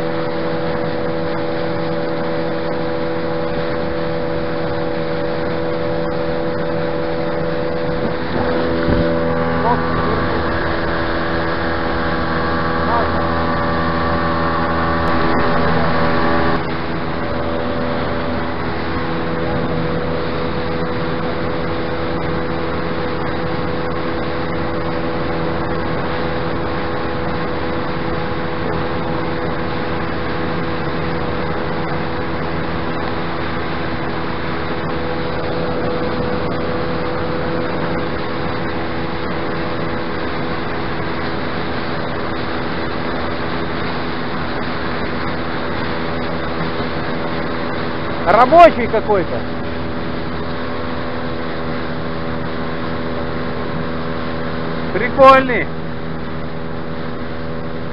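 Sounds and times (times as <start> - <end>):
outboard motor drone: 0.0 - 57.9
water and wind rushing against hull: 0.0 - 57.9.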